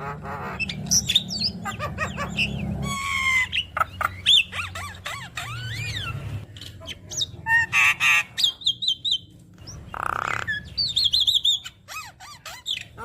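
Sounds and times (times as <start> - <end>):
bird singing chattering song: 0.0 - 13.0.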